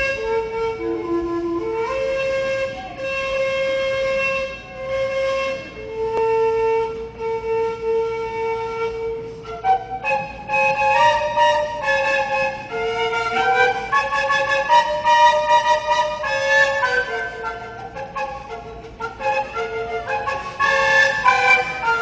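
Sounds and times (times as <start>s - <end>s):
flute-like woodwind melody: 0.0s - 22.0s.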